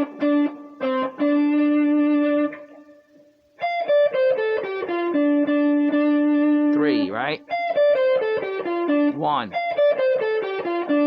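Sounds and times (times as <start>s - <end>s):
blues guitar playing: 0.0s - 11.0s.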